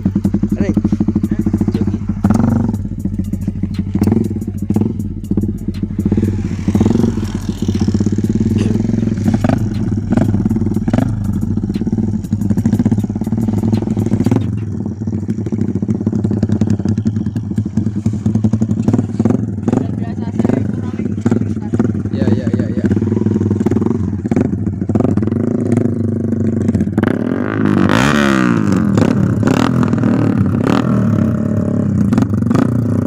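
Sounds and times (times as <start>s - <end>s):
motorcycle engine revving high: 0.0s - 33.0s.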